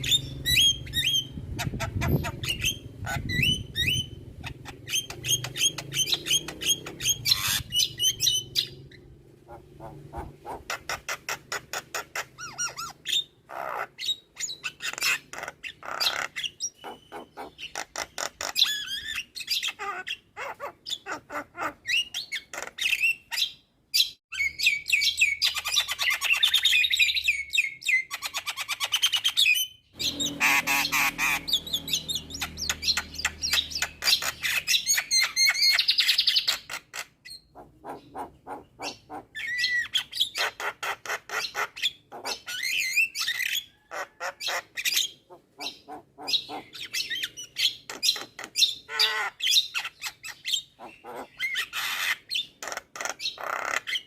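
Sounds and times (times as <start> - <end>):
myna bird singing: 0.0 - 54.0.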